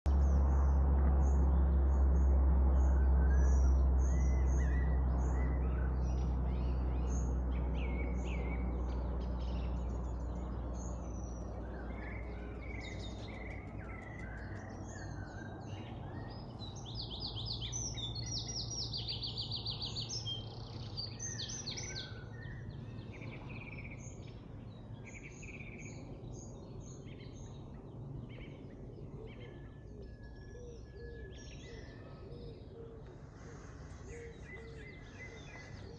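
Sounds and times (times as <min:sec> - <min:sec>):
airplane rumble overhead: 0:00.0 - 0:35.9
birds chirping: 0:00.1 - 0:35.9.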